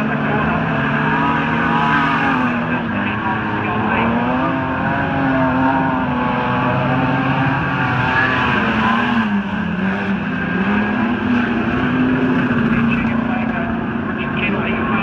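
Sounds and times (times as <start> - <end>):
race car engines revving high: 0.0 - 15.0.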